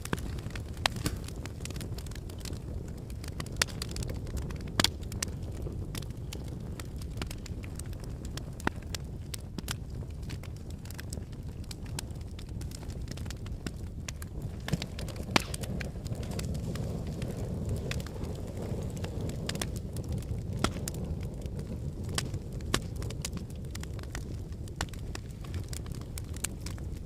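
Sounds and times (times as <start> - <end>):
flames rumbling: 0.0 - 27.0
wood crackling and popping: 0.0 - 27.0.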